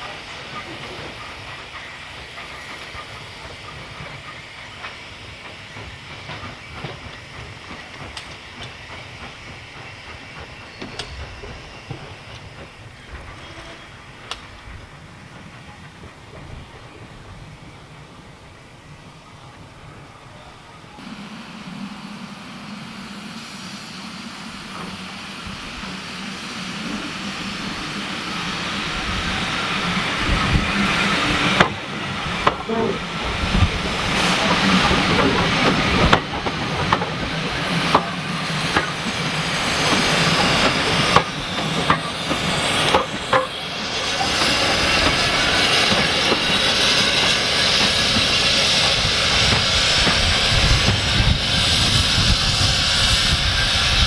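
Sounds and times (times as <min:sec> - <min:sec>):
train approaching: 0:00.0 - 0:54.0.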